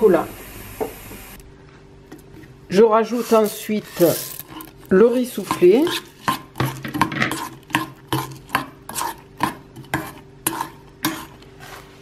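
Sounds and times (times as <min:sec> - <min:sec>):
metal spoon stirring in a steel bowl: 0:02.2 - 0:11.9.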